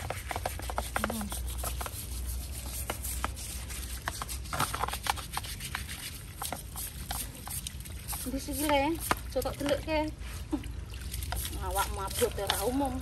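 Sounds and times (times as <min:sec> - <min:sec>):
brush scrubbing wet shell: 0:00.0 - 0:13.0.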